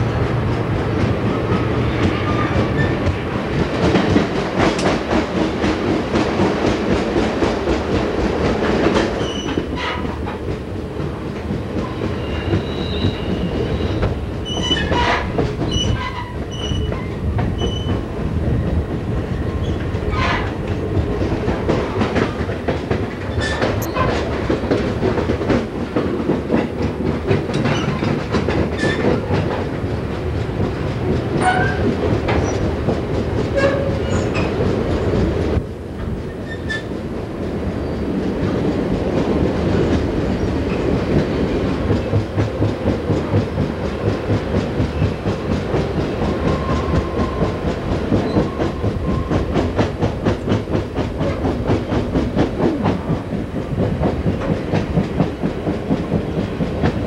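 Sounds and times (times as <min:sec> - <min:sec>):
train rumble: 0:00.0 - 0:57.0
train wheels clicking over rail joints: 0:00.0 - 0:57.0.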